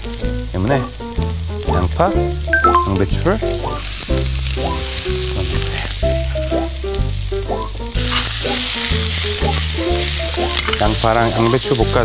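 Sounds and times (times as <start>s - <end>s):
background music with bass line: 0.0s - 12.0s
vegetables sizzling in oil: 0.0s - 12.0s.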